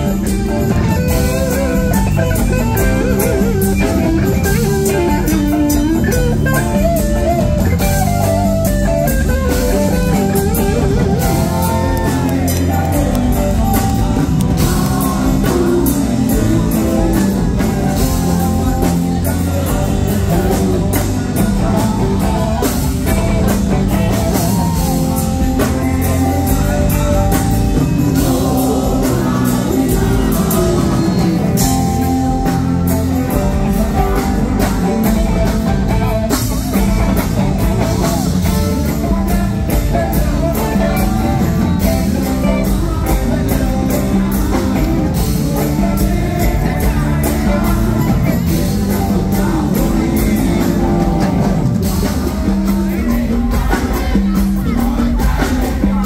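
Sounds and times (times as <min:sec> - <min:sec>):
drums and congas: 0:00.0 - 0:56.0
electric guitars: 0:00.0 - 0:56.0
man singing: 0:00.0 - 0:56.0.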